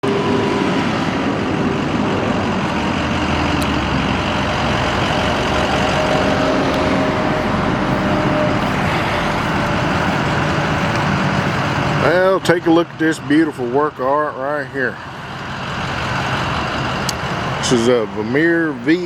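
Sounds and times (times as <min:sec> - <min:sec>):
vacuum truck running: 0:00.0 - 0:19.0.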